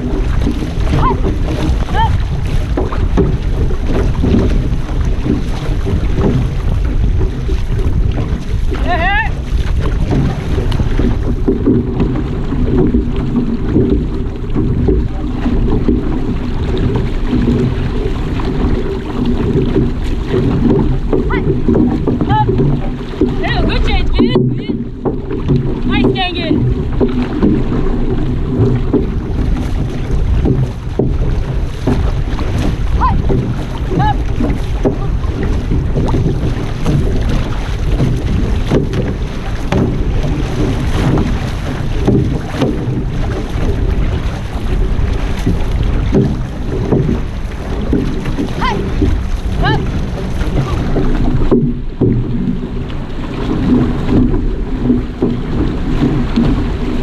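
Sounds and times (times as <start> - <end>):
water splashing along canoe hull: 0.0 - 57.0
wind buffeting microphone: 0.0 - 57.0.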